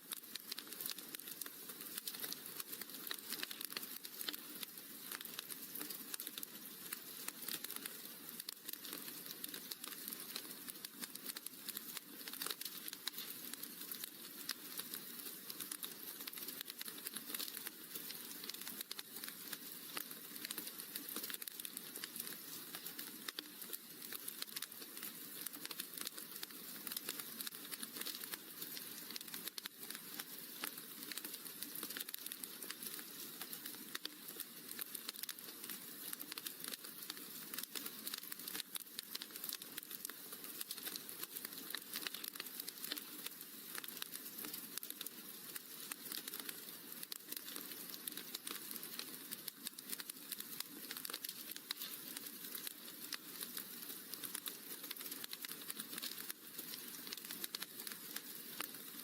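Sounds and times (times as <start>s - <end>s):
soft hiss: 0.0s - 59.0s
wood fire crackling: 0.0s - 59.0s.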